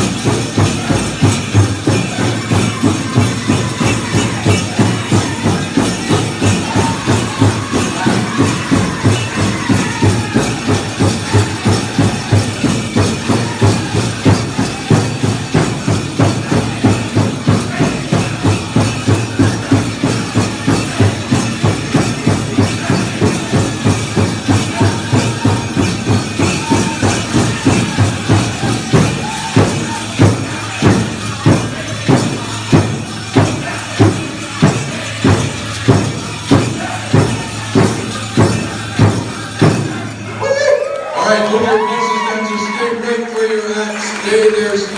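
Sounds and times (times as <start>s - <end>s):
fast steady drumbeat: 0.0s - 40.5s
drum group singing: 0.0s - 43.1s
jingling ankle bells: 0.0s - 44.9s.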